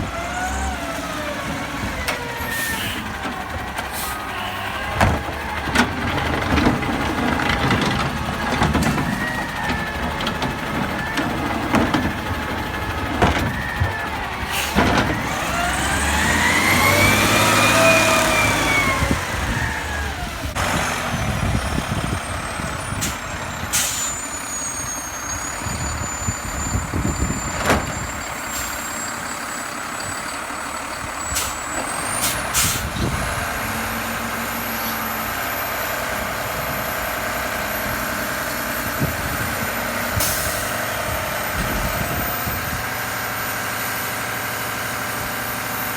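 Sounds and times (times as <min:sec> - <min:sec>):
garbage truck diesel engine: 0:00.0 - 0:45.9.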